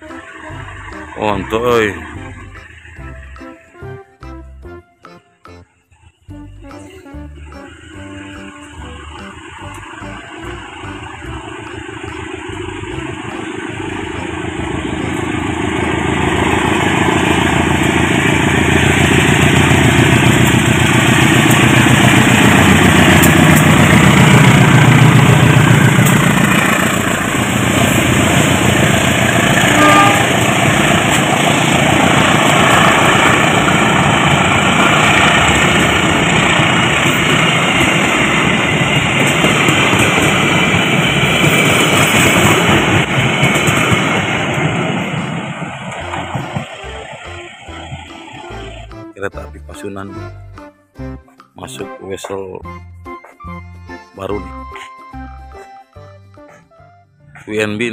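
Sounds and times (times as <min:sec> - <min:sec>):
train coaches rumbling on rails: 0:00.0 - 0:04.8, 0:05.6 - 0:49.1
diesel locomotive engine: 0:00.0 - 0:57.9.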